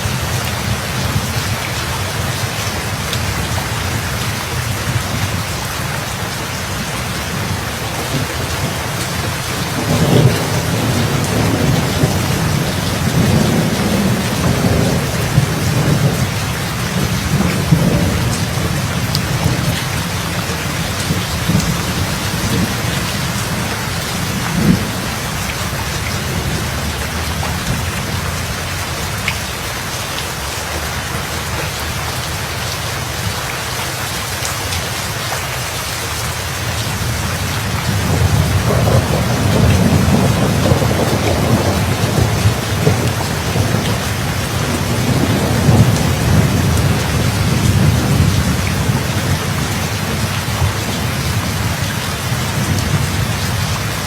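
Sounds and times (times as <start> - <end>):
thunder rumbling: 0.0 - 29.3, 36.8 - 54.0
steady rain falling: 0.0 - 54.0.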